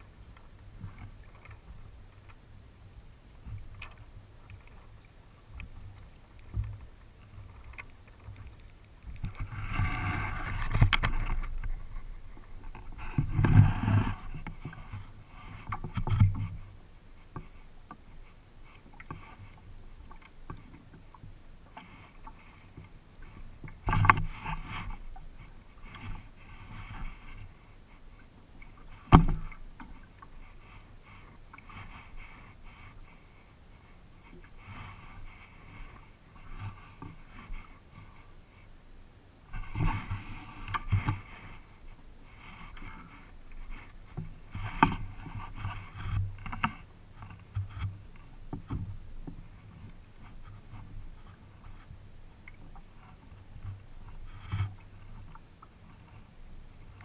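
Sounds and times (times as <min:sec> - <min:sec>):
water splashing against hull: 0:00.0 - 0:38.7, 0:39.4 - 0:57.0.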